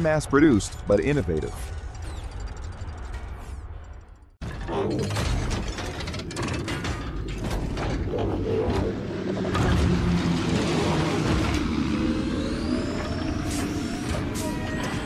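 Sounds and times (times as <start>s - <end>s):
mechanical rattling and clatter: 0.0s - 15.0s
propeller plane engine drone: 0.4s - 4.6s, 5.5s - 15.0s.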